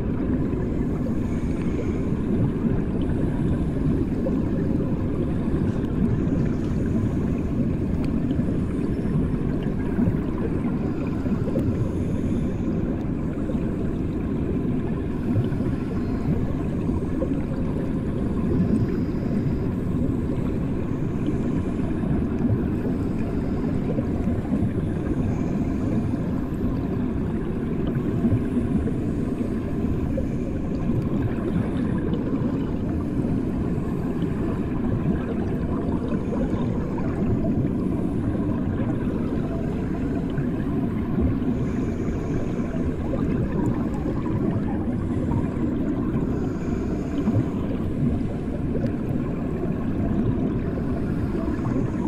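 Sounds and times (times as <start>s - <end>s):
muffled underwater rumble: 0.0s - 52.0s.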